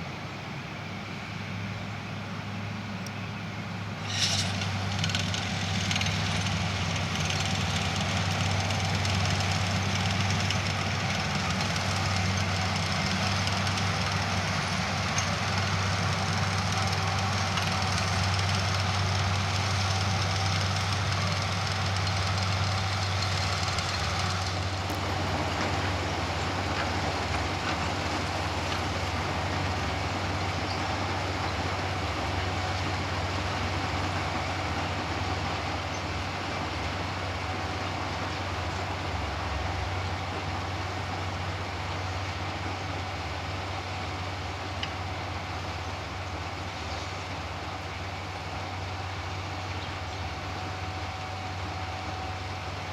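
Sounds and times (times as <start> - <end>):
low diesel engine hum: 0.0 - 52.9.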